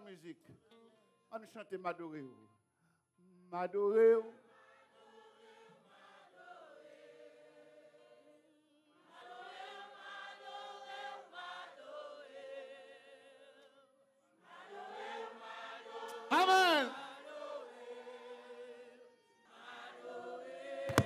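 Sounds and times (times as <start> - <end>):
congregation singing a hymn: 3.9 - 21.0.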